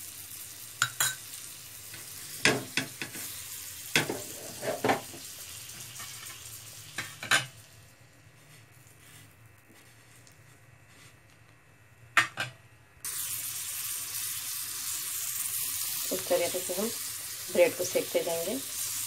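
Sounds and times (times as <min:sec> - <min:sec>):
butter sizzling on a griddle: 0:00.0 - 0:10.3, 0:13.0 - 0:19.0.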